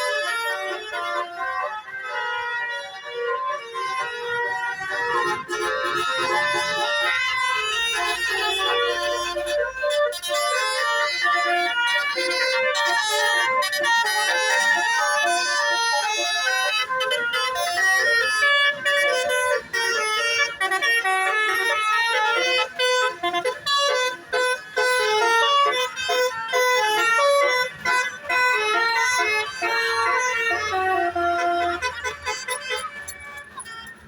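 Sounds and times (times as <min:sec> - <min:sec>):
multi-tone horn playing a melody: 0:00.0 - 0:34.0.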